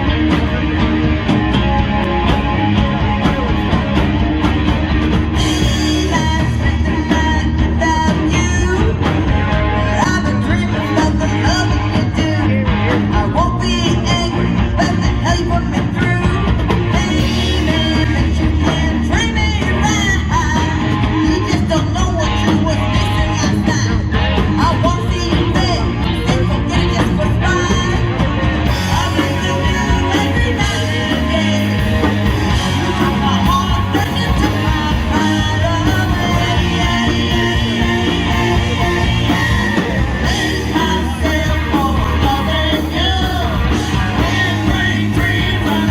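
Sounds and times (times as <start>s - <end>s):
live rock band: 0.0s - 45.9s
lead vocal singing: 5.3s - 45.9s.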